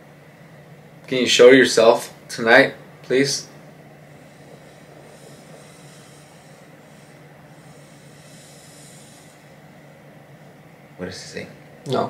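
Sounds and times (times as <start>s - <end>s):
air conditioner hum and hiss: 0.0s - 12.0s.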